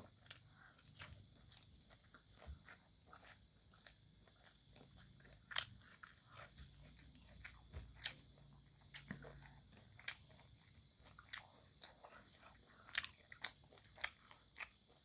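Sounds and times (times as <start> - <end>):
chewing with mouth smacks: 0.0 - 15.0.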